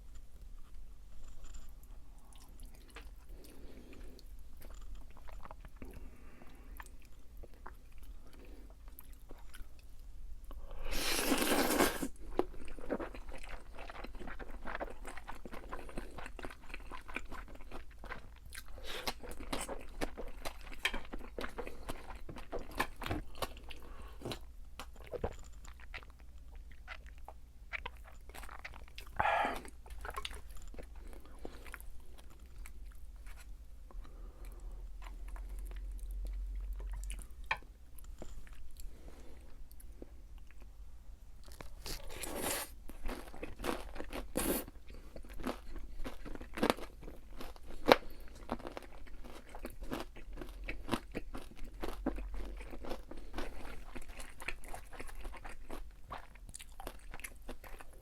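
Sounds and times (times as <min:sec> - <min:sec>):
crunchy food being chewed: 0:00.0 - 0:10.1, 0:11.0 - 0:40.8, 0:41.4 - 0:58.0.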